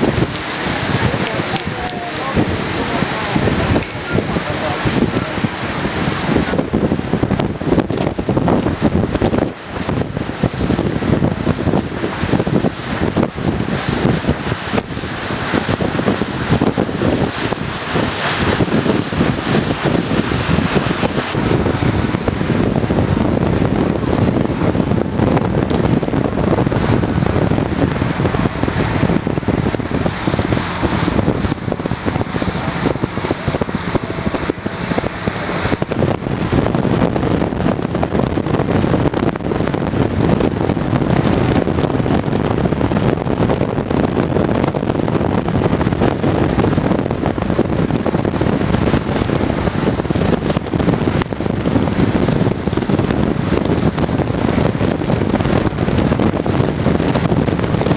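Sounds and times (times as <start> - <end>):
boat engine running: 0.0 - 57.9
wind buffeting microphone: 0.0 - 57.9.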